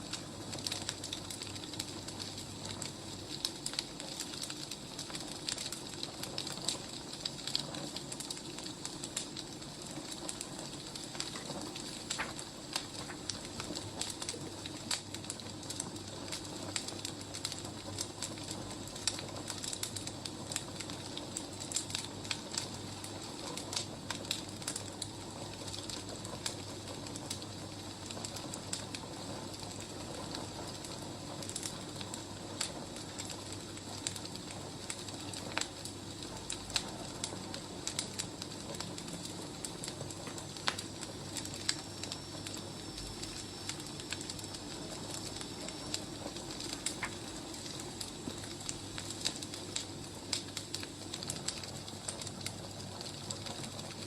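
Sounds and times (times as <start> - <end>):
fire pops and snaps: 0.0 - 54.0
wood fire crackling: 0.0 - 54.0.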